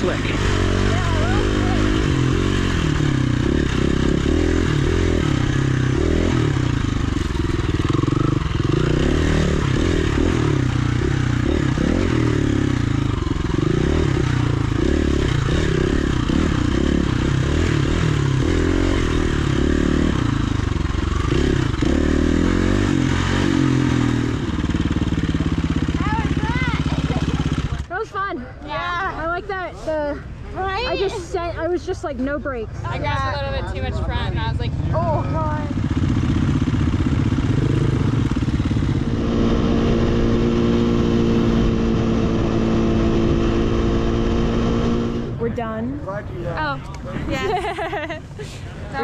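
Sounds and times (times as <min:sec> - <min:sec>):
motorcycle engine revving: 0:00.0 - 0:28.0, 0:33.4 - 0:46.8, 0:47.4 - 0:49.0.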